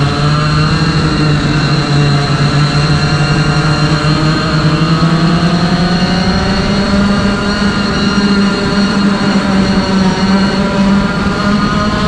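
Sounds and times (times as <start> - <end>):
kart engine accelerating: 0.0 - 12.0.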